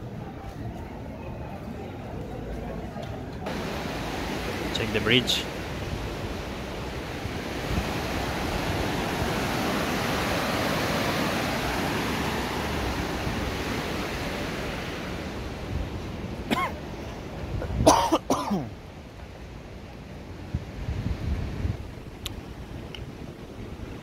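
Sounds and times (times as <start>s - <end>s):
river rushing: 3.4s - 24.0s.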